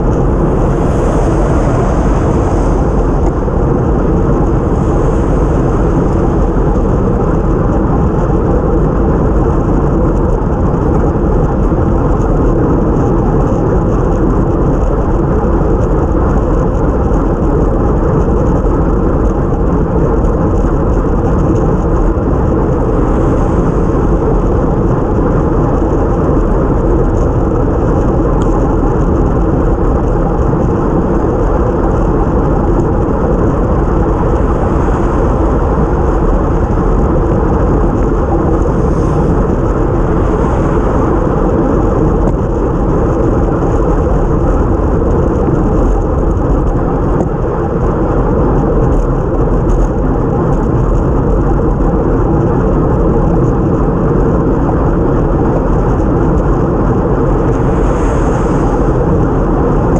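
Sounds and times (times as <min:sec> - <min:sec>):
bicycle tyres on wet road: 0:00.0 - 0:59.9
wind on microphone: 0:00.0 - 0:59.9.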